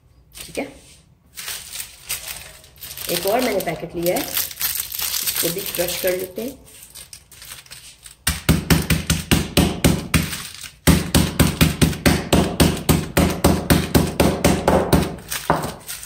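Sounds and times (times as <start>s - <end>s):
rolling pin crushing biscuits: 1.3s - 16.0s.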